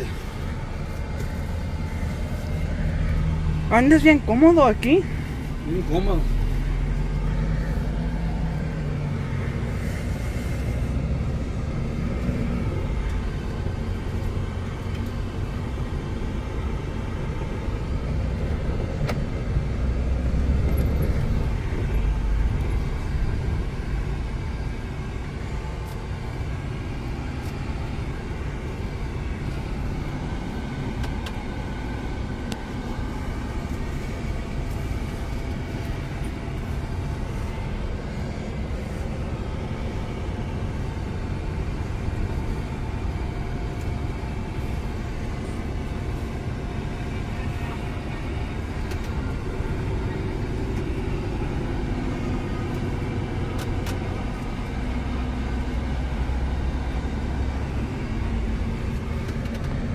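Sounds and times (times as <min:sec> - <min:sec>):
truck engine and tyres rumbling: 0:00.0 - 0:59.9.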